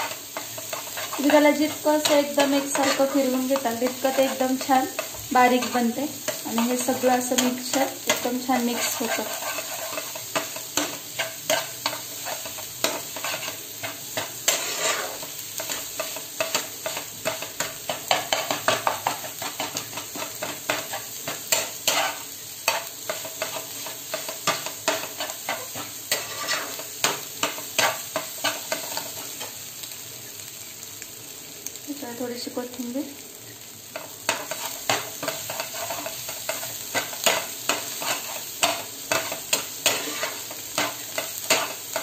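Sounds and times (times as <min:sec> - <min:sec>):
spatula scraping frying pan: 0:00.0 - 0:29.6, 0:33.9 - 0:42.0
food sizzling: 0:00.0 - 0:42.0.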